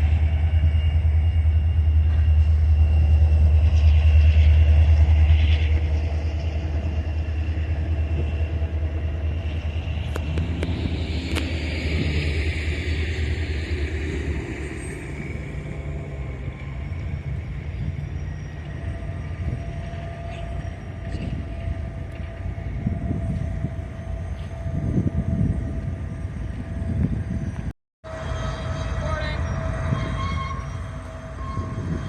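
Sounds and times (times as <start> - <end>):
passing train rumble: 0.0 - 32.0.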